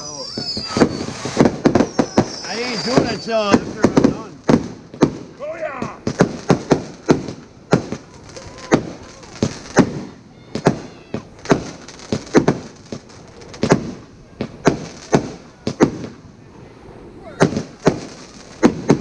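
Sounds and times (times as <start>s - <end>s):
firework cake loud bangs: 0.0s - 16.2s, 17.3s - 19.0s.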